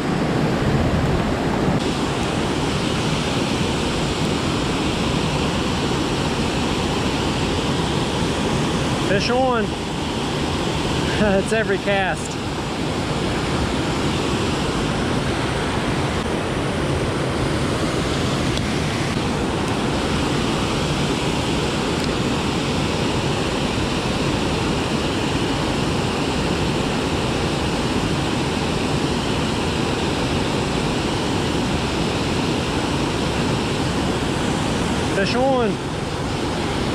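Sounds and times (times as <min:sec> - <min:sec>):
water rushing over spillway: 0:00.0 - 0:36.9.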